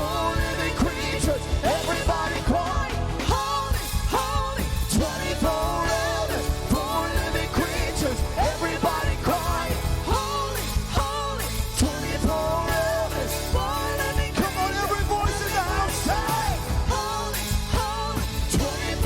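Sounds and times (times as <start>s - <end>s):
drums and bass beat: 0.0s - 19.0s.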